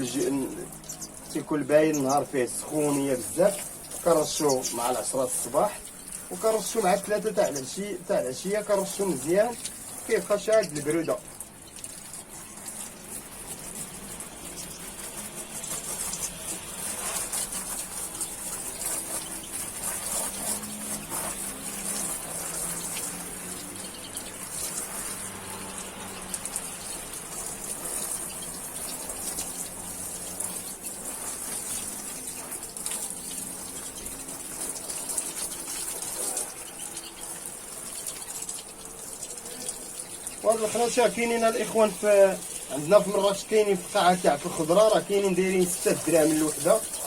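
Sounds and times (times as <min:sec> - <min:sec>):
water gushing from a hose: 0:00.0 - 0:47.0.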